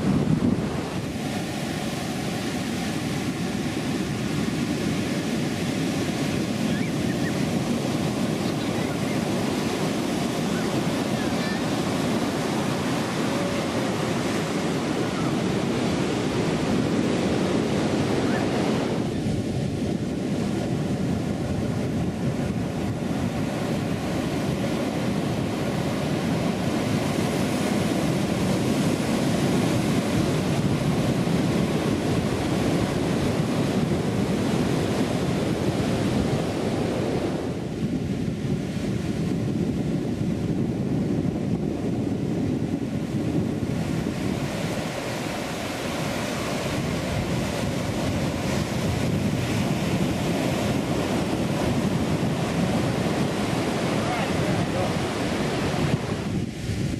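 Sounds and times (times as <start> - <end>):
ocean surf breaking on beach: 0.0 - 56.9
wind on the microphone: 0.0 - 56.9.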